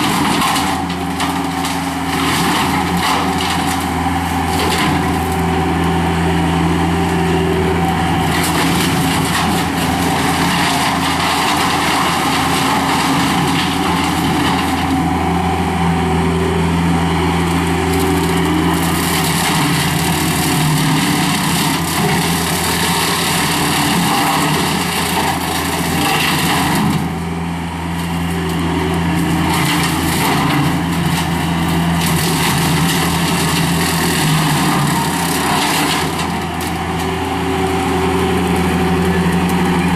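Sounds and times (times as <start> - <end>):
skid steer engine hum: 0.0 - 39.9.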